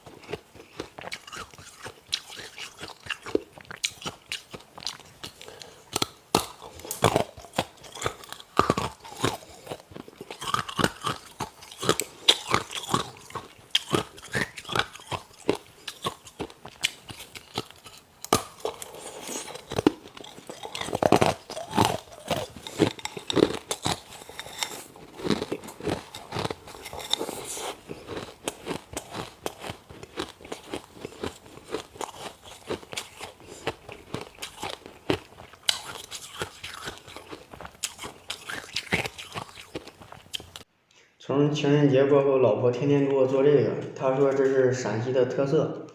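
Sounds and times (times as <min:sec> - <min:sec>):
person crunching ice: 0:00.2 - 0:40.6.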